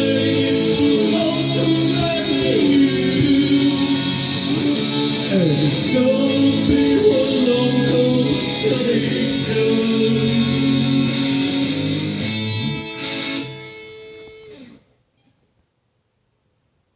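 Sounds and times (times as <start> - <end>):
sustained guitar chords: 0.0 - 14.8.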